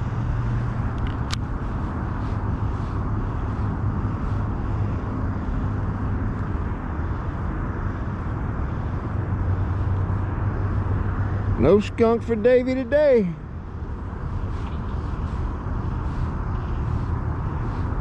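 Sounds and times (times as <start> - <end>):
distant traffic rumble: 0.0 - 18.0
low engine hum: 0.0 - 18.0.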